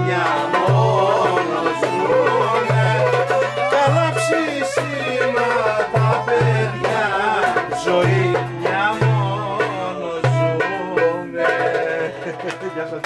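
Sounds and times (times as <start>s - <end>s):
hand drum beats: 0.0s - 13.0s
wavering violin melody: 0.0s - 13.0s.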